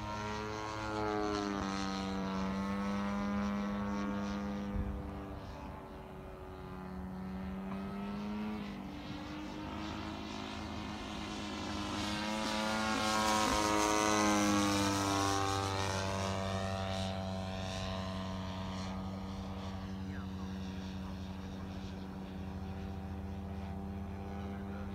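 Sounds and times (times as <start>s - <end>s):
model airplane engine flying past: 0.0s - 24.9s.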